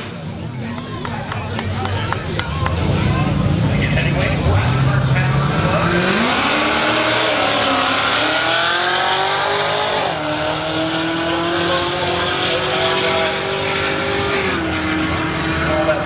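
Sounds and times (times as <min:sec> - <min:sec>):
race car engine accelerating: 0:02.4 - 0:16.0.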